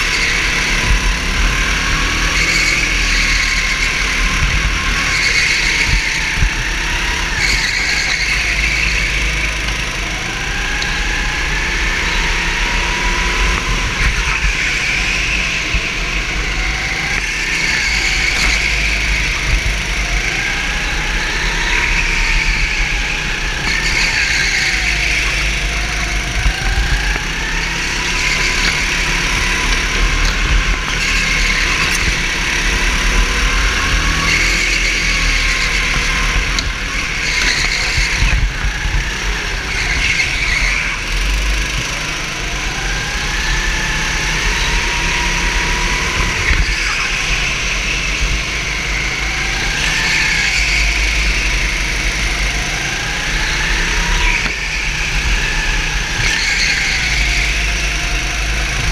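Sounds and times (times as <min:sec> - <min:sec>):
kart motor running hard: 0:00.0 - 0:58.9.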